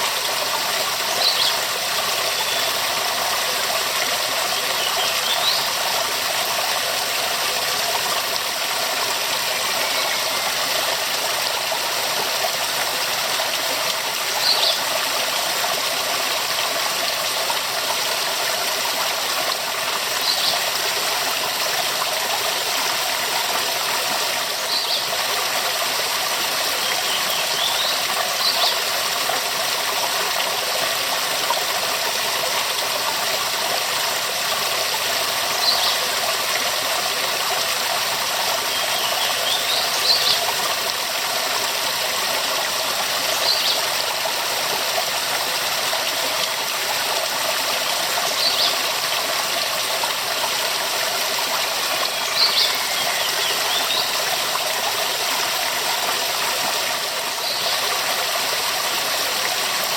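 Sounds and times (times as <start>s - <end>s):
waterfall rushing: 4.7s - 28.7s, 34.9s - 59.9s.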